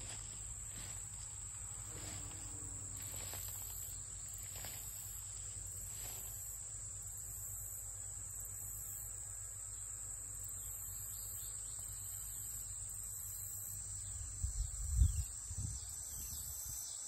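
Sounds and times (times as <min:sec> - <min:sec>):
crickets droning: 0:00.0 - 0:17.0
high insect trill: 0:00.0 - 0:17.0.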